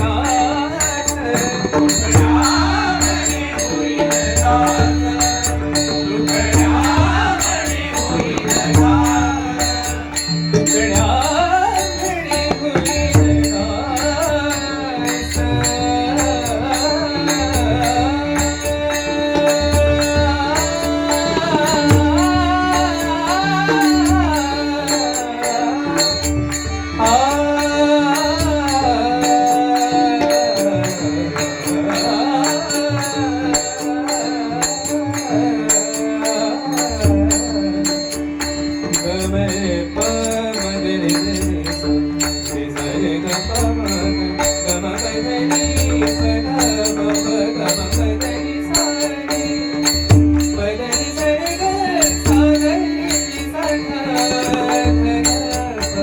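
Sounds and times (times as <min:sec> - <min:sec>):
devotional song melody: 0:00.0 - 0:56.0.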